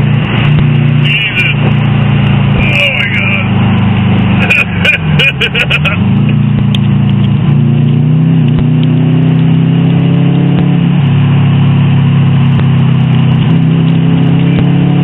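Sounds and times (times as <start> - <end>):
car engine running: 0.0 - 15.0
road noise: 0.0 - 15.0.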